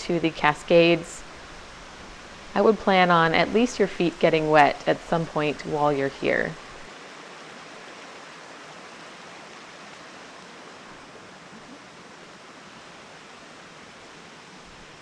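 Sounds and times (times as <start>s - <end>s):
creek water rushing: 0.1s - 15.0s.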